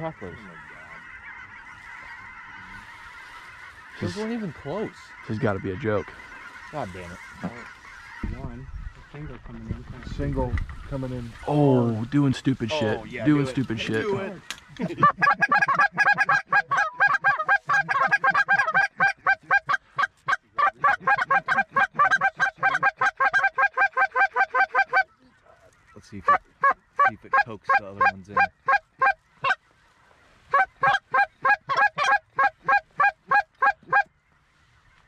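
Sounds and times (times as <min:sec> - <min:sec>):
goose call clucking: 0:00.0 - 0:29.7, 0:30.4 - 0:34.2.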